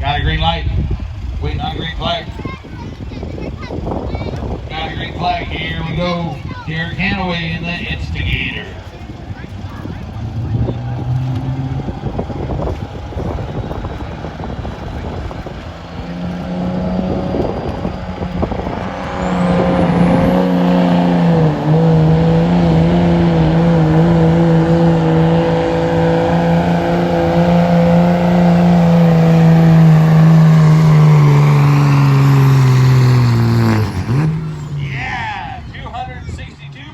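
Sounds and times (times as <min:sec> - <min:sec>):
truck engine at full throttle: 0:00.0 - 0:36.9.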